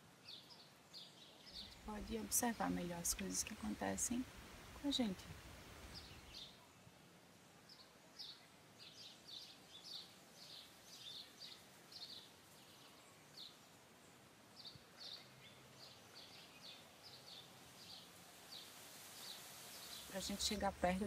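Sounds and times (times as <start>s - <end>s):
low background hiss: 0.0s - 21.0s.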